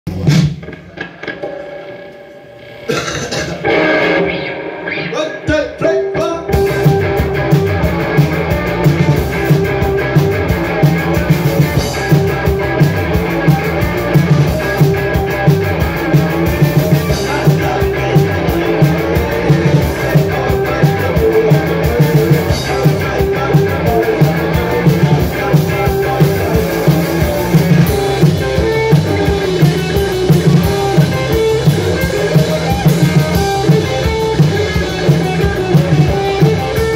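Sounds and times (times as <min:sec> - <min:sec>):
live rock band playing: 0:00.1 - 0:36.9.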